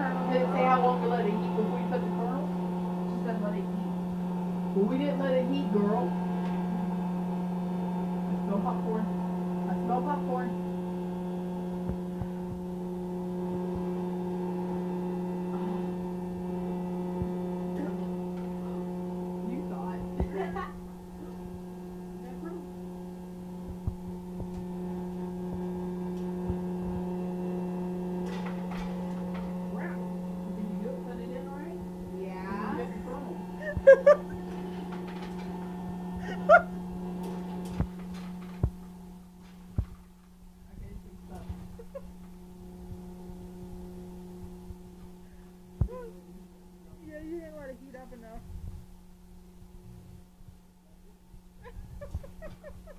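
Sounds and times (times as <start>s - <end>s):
popcorn maker motor hum: 0.0s - 52.9s.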